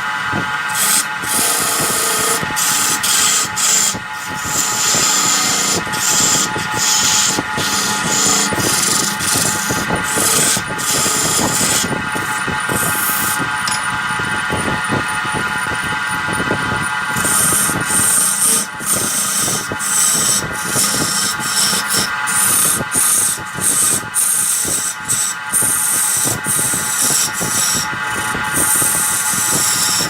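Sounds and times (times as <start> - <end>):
wood lathe motor whine: 0.0 - 30.0
turning tool scraping wood: 0.7 - 13.8, 16.9 - 30.0.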